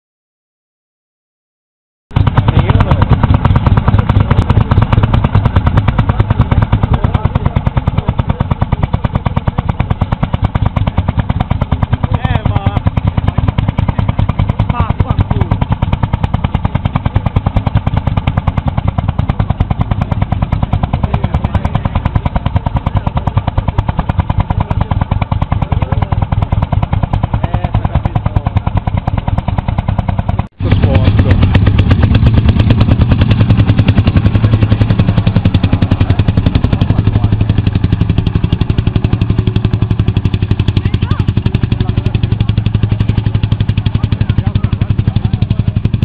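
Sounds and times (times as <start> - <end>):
tractor engine chugging: 2.1 - 46.0.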